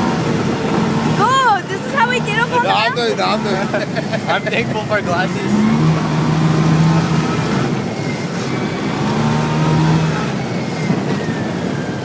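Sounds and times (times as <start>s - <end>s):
atv engine revving: 0.0s - 11.6s.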